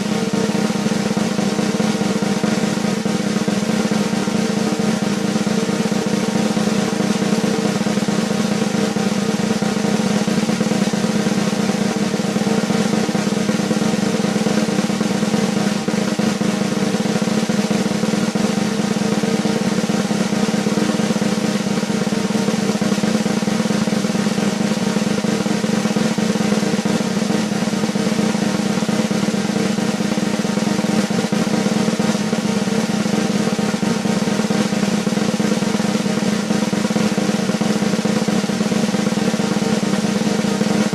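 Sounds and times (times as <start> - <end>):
snare drum roll: 0.0 - 40.9.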